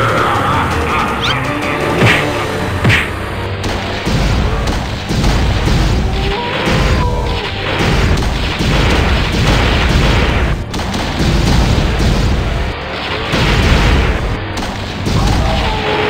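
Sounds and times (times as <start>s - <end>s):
background music: 0.0s - 16.0s
cartoon weapon blasts: 2.0s - 16.0s.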